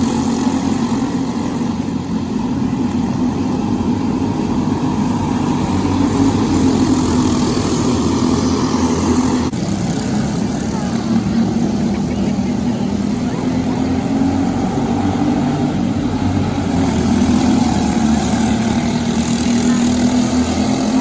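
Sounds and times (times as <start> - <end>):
kart engine running: 0.0 - 21.0.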